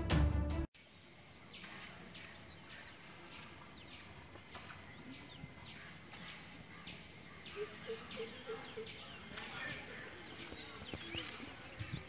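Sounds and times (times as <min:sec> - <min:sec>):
birds chirping: 0:00.8 - 0:12.0.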